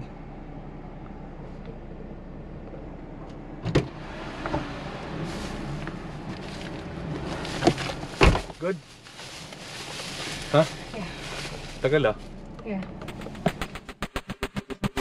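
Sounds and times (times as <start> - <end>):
car cabin noise: 0.0 - 14.0.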